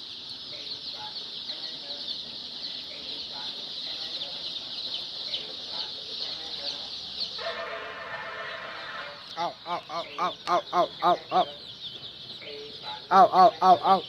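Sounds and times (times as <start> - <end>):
chicks cheeping: 0.0 - 14.0.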